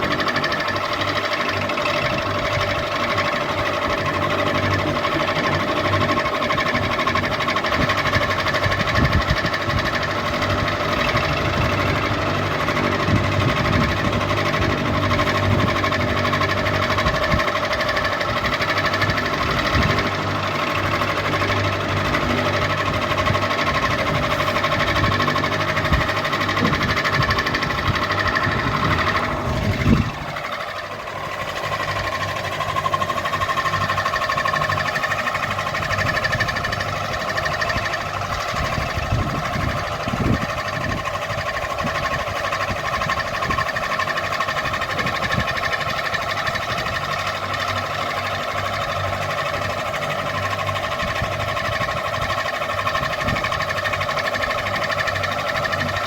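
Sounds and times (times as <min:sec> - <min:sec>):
ceiling fan motor hum: 0:00.0 - 0:56.0
fan knocking and rattling: 0:00.0 - 0:56.0.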